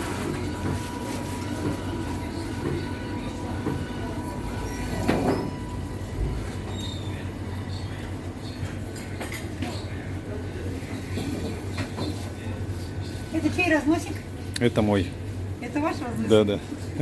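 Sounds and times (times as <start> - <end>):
low equipment hum: 0.0 - 17.0.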